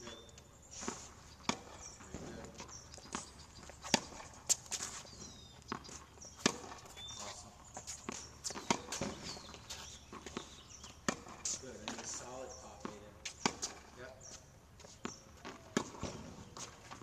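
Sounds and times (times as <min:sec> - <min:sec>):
tennis balls hit by rackets: 0:00.0 - 0:17.0.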